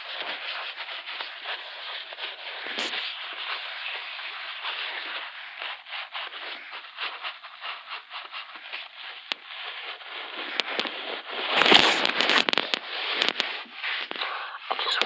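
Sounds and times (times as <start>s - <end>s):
paper crinkling: 0.0s - 15.0s.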